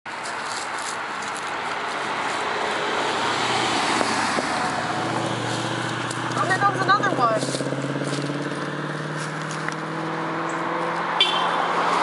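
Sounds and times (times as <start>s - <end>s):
car driving past: 1.6s - 12.0s.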